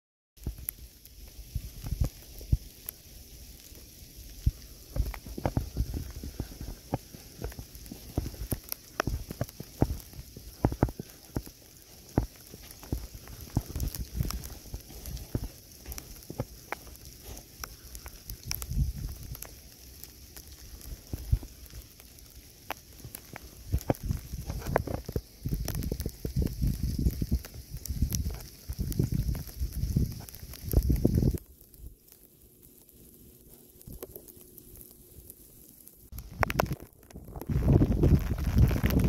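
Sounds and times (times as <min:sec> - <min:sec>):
irregular crackling and ticks: 0:00.4 - 0:39.0
steady hiss: 0:00.4 - 0:39.0.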